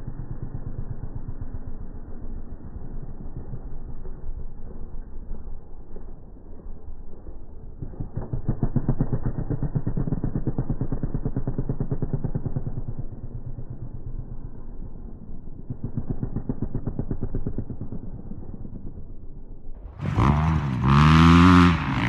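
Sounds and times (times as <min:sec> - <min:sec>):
slowed dirt bike engine: 0:00.0 - 0:22.0.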